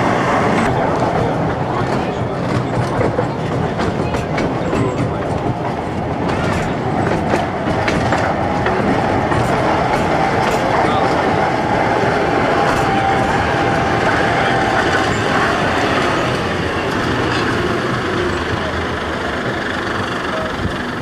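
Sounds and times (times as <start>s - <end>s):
rack train running: 0.0s - 21.0s
wheels clicking over rail joints: 0.6s - 21.0s.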